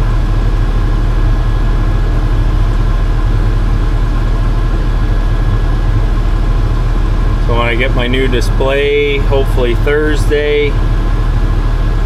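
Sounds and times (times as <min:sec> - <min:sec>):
faint steady whine: 0:00.0 - 0:12.0
tractor engine idling: 0:00.1 - 0:12.0.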